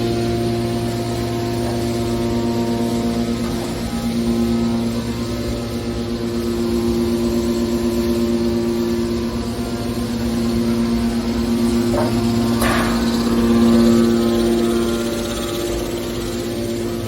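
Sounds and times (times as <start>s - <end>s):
baler machine hum: 0.0s - 17.0s.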